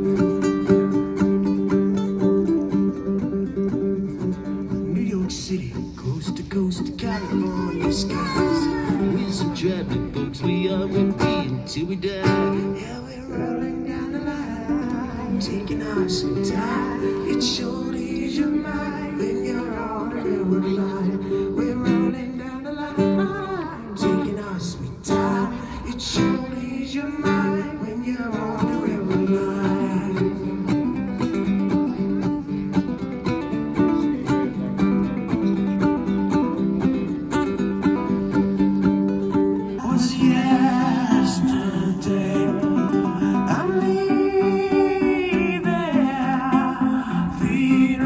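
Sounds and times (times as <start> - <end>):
acoustic guitar strumming: 0.0 - 48.0
person singing: 4.0 - 33.0, 38.0 - 48.0.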